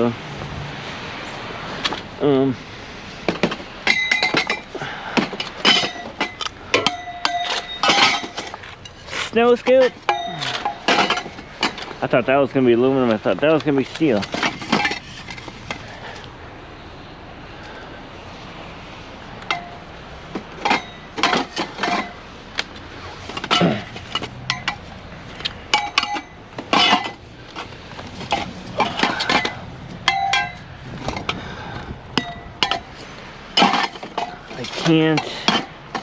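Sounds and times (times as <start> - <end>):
scrap metal clanking: 3.1 - 16.3, 19.4 - 36.0.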